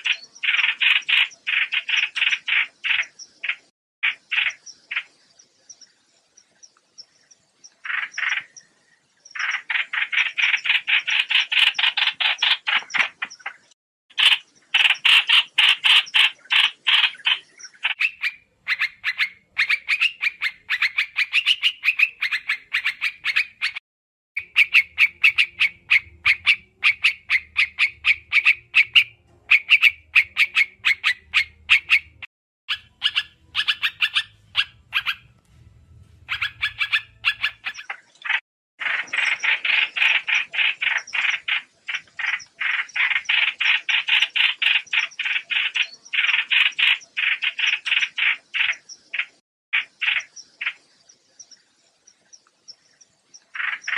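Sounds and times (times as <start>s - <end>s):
bird chattering calls: 0.0s - 5.2s, 7.7s - 8.6s, 9.3s - 23.8s, 24.4s - 35.4s, 36.2s - 50.8s, 53.5s - 53.9s.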